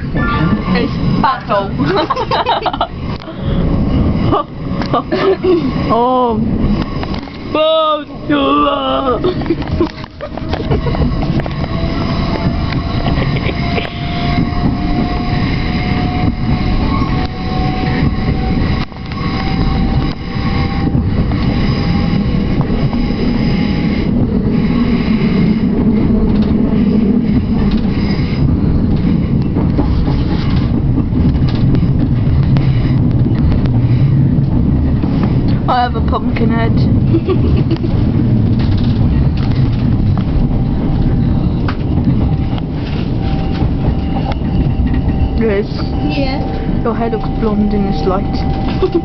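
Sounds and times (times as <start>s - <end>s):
train wheels rumbling: 0.0s - 49.0s.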